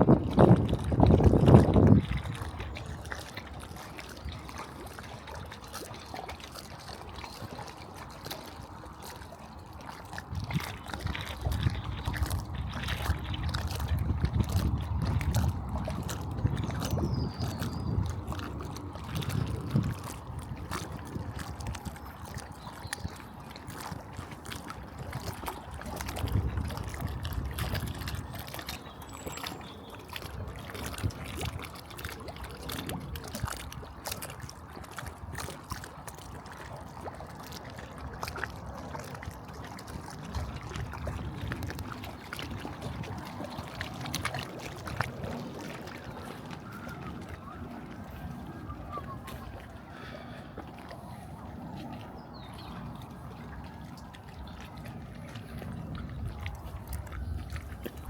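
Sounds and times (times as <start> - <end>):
wind buffeting microphone: 0.0 - 5.2, 9.8 - 58.0.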